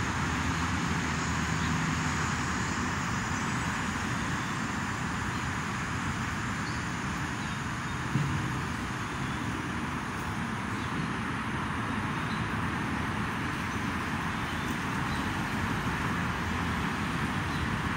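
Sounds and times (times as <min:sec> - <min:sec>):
road traffic rumble: 0:00.0 - 0:17.9.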